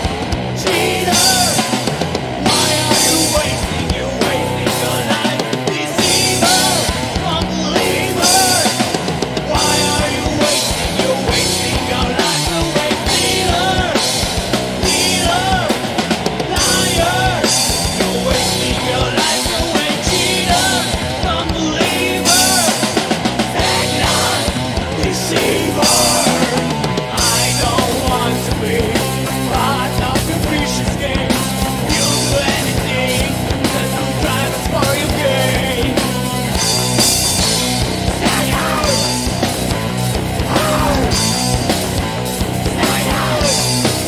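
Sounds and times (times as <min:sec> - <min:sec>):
bass guitar: 0:00.0 - 0:44.0
distorted electric guitars: 0:00.0 - 0:44.0
drum kit playing: 0:00.0 - 0:44.0.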